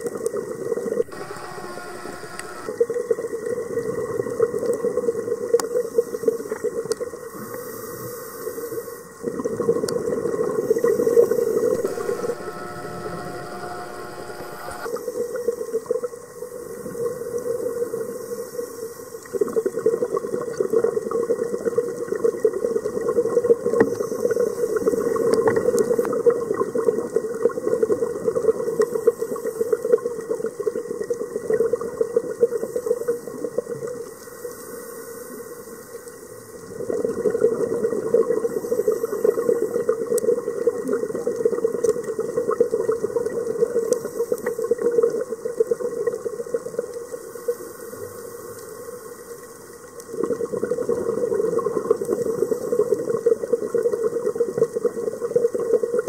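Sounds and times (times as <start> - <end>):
faint high crackle: 0.0 - 56.0.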